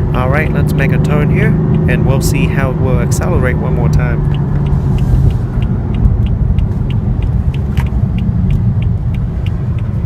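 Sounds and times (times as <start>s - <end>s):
car engine running: 0.0s - 10.0s
road noise: 0.0s - 10.0s.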